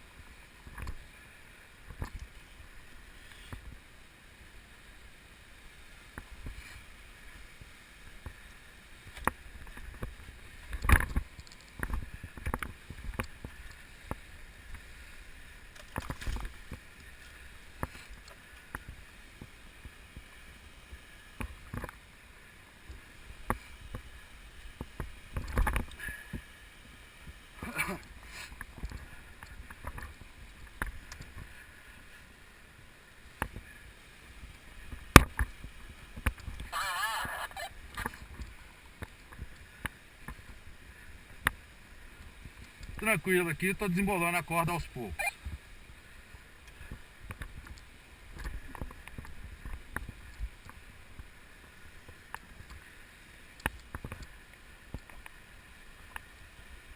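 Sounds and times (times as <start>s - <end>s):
faint steady hiss: 0.0s - 56.9s.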